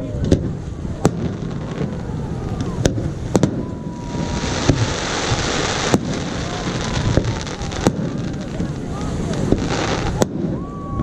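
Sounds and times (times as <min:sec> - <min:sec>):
firework crackling: 0:00.1 - 0:11.0
firework bangs: 0:00.2 - 0:11.0.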